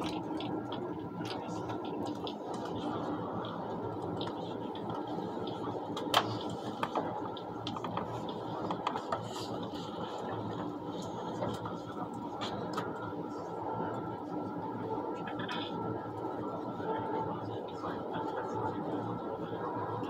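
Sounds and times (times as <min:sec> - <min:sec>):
train running noise in cabin: 0:00.0 - 0:20.0.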